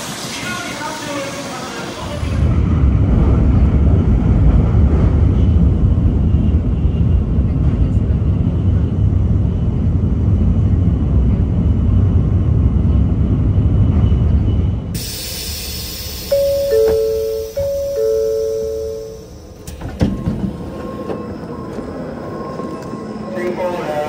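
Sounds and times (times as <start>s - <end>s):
train rumbling inside carriage: 0.0s - 24.0s.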